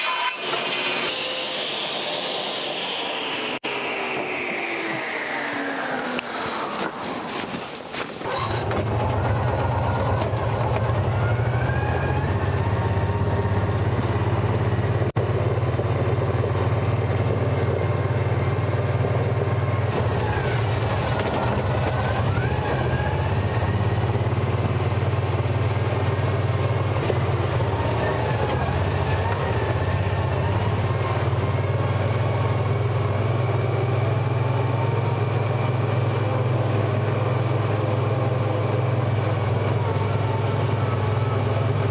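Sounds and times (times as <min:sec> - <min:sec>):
small vehicle engine running: 0:00.0 - 0:41.9.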